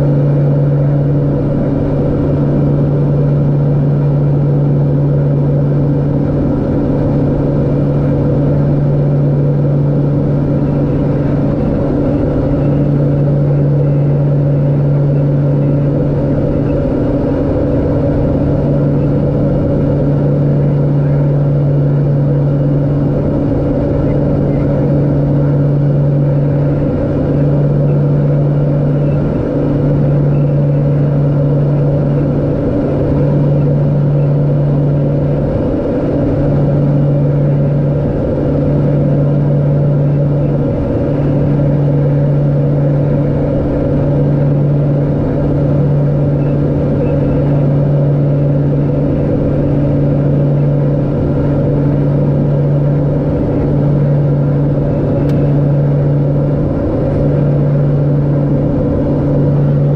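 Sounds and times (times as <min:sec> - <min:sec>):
turboprop engines droning: 0:00.0 - 0:59.9.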